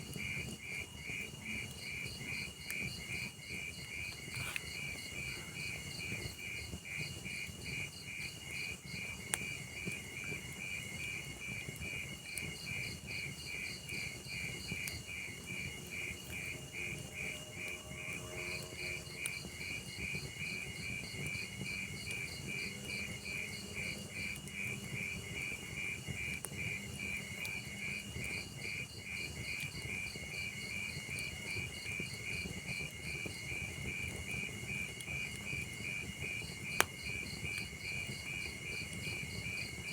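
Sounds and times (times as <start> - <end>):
log fire rumbling and popping: 0.0 - 17.7, 18.5 - 39.9
crickets chirping: 0.2 - 39.9.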